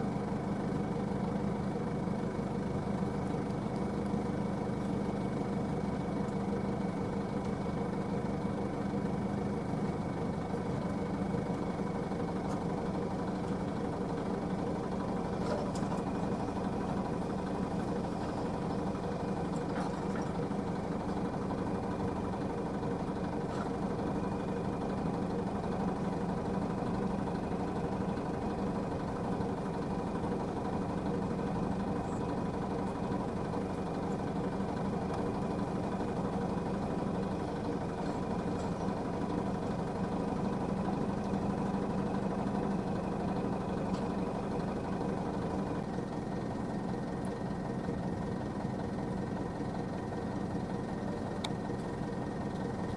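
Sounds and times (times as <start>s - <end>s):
heavy diesel engine idling: 0.0s - 52.9s.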